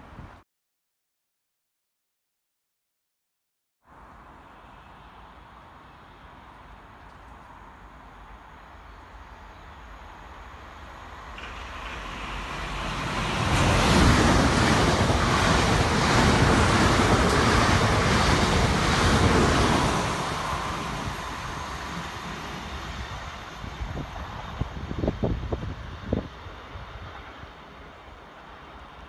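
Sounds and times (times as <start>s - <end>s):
train wheels roaring on rail: 4.6s - 29.0s.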